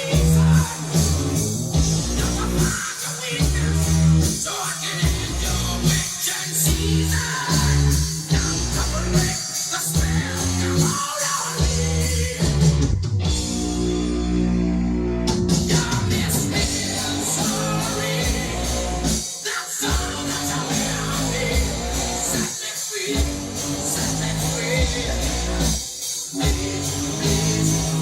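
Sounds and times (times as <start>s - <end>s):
rock song with singing and guitar: 0.0s - 28.0s.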